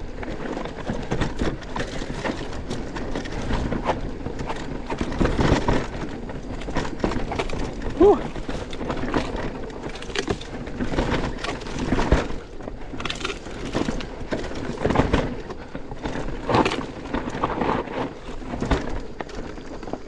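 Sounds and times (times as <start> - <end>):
bike knocking and rattling: 0.0 - 20.0
bike tyres crunching over rock: 0.0 - 20.0.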